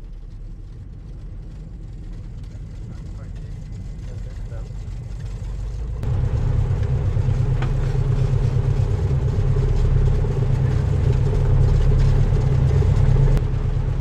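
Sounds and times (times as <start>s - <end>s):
propeller aircraft engines from cabin: 0.0s - 14.0s.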